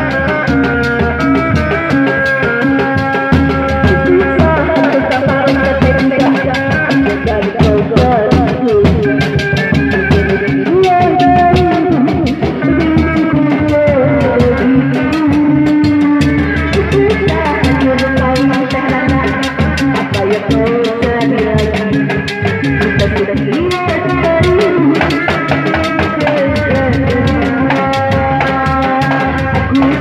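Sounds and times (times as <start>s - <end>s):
frame drums beating fast rhythm: 0.0s - 30.0s
shawm playing ornamented melody: 0.0s - 30.0s.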